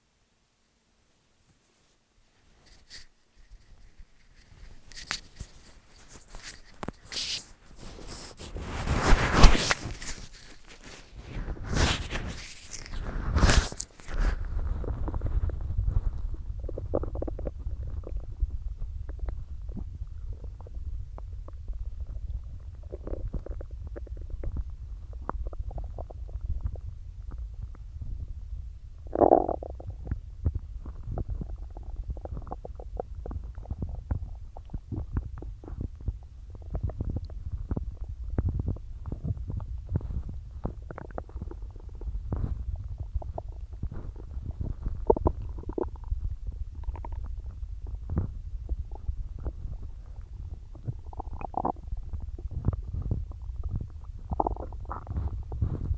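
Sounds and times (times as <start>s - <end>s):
stomach gurgling: 4.5s - 55.9s.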